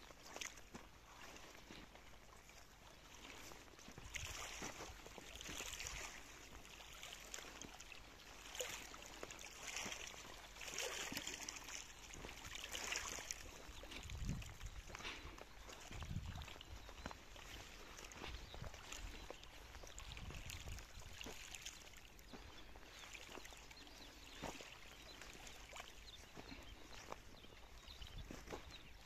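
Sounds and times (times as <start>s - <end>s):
small waves lapping on pebbles: 0.0s - 29.0s.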